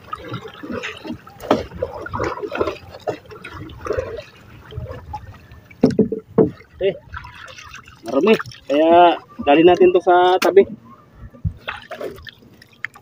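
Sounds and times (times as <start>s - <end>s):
water sloshing against boat: 0.0s - 13.0s.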